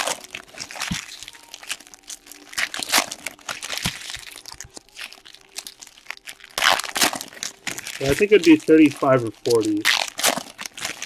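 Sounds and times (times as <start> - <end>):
foil wrappers crinkling: 0.0 - 11.0.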